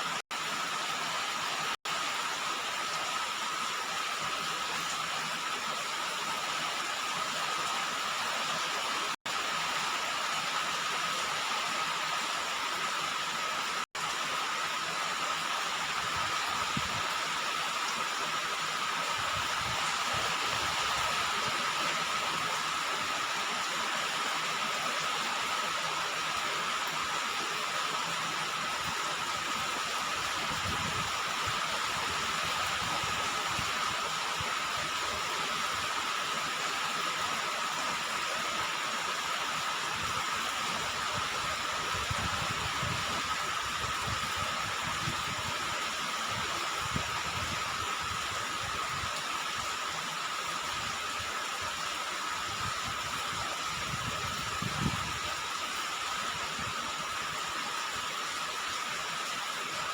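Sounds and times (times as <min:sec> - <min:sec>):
rain on a roof: 0:00.0 - 0:59.9.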